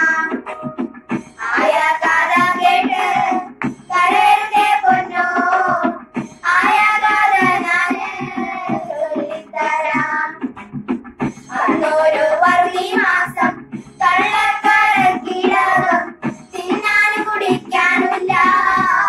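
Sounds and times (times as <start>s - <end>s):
girls singing a folk song: 1.4s - 10.4s, 11.5s - 19.0s.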